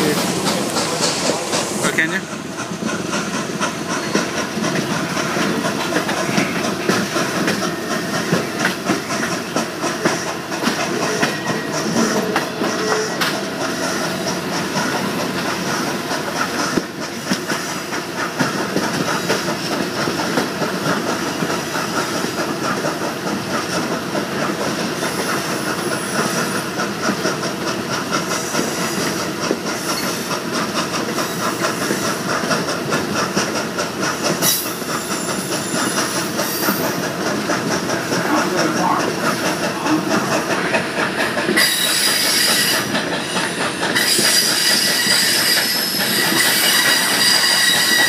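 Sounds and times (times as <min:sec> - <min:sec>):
clickety-clack over rail joints: 0:00.0 - 0:48.0
train wheel and rail noise: 0:00.0 - 0:48.0.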